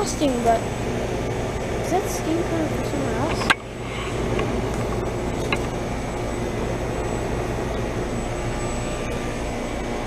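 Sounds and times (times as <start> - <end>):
low compressor hum: 0.0 - 10.0.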